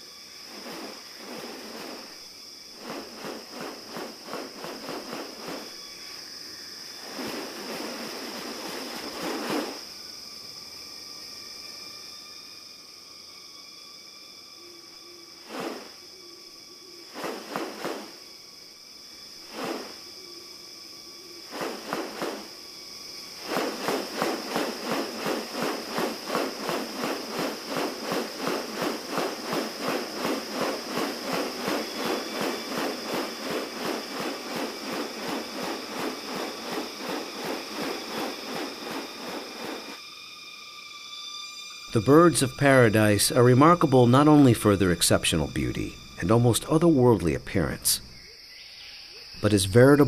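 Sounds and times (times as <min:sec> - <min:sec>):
high-pitched insect drone: 0:00.0 - 0:50.0
rapid pulsing insect calls: 0:00.0 - 0:50.0.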